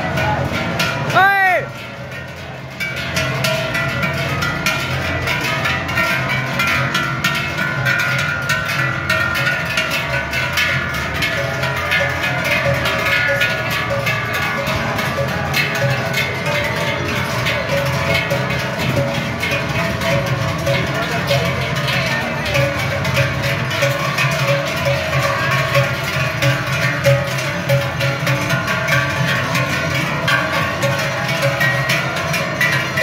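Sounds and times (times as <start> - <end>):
cowbells clanging: 0.0 - 33.0.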